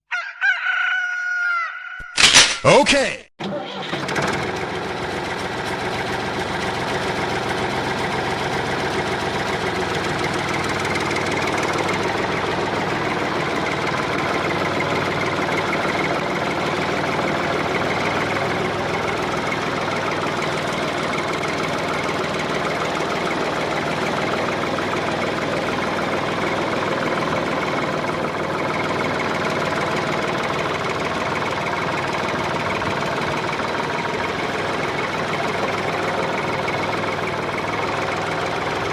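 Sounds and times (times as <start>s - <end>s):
model tractor motor running: 3.4s - 38.9s.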